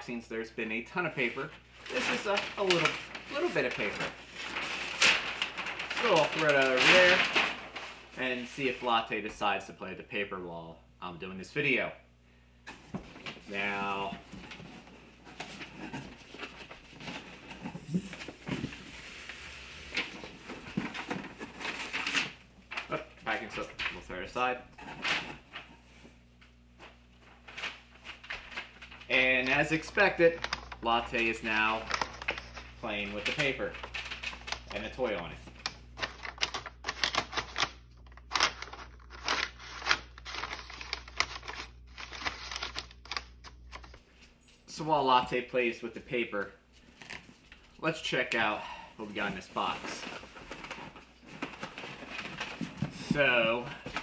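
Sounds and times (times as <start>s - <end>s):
paper crinkling and rustling: 0.9s - 8.9s, 12.8s - 25.9s, 26.8s - 44.1s, 46.4s - 47.8s, 49.0s - 54.0s.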